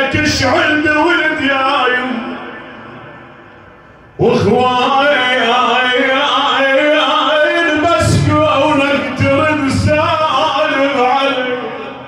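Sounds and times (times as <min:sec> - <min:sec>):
man chanting: 0:00.0 - 0:03.0, 0:04.2 - 0:12.0.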